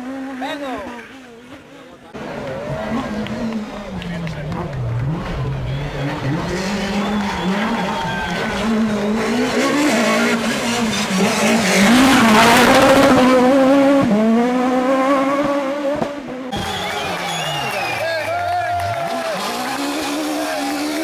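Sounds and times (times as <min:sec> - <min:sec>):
racing car engine revving: 0:00.0 - 0:21.0.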